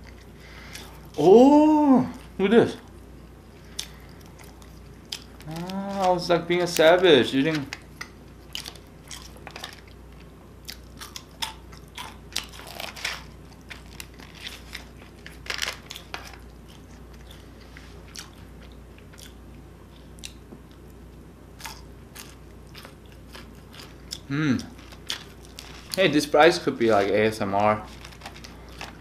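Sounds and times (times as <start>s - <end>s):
chewing crispy fries: 0.0s - 29.0s.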